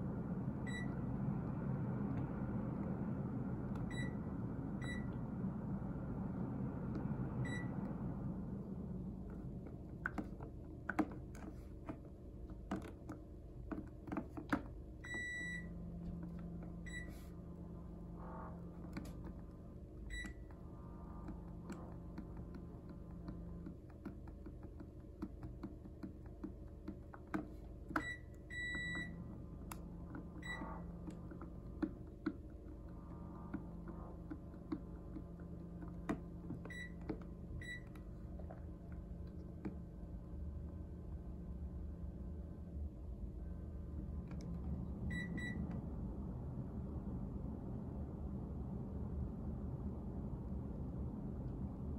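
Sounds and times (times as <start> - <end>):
air conditioner electronic beeps: 0.0 - 12.1, 12.7 - 47.1.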